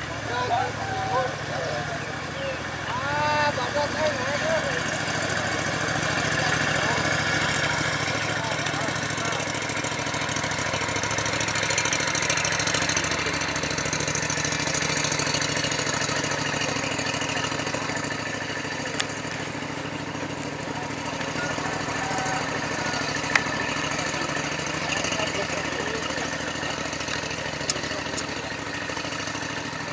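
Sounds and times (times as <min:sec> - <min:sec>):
small engine running: 0:00.0 - 0:29.9.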